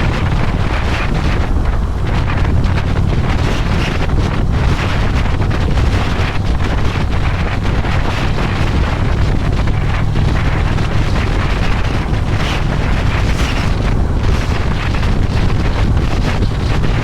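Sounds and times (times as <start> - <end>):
motorcycle engine rumble: 0.0 - 17.0
wind rushing over microphone: 0.0 - 17.0.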